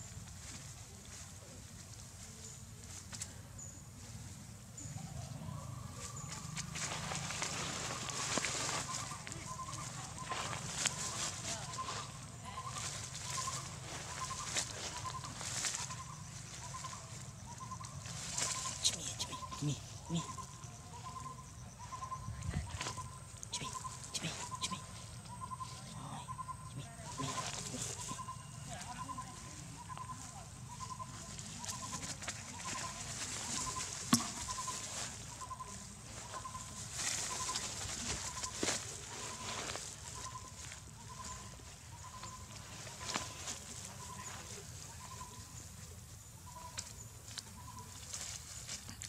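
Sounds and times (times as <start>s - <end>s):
rustling leaves and grass: 0.0s - 49.0s
bird pulsed call: 4.8s - 45.7s, 46.3s - 48.1s.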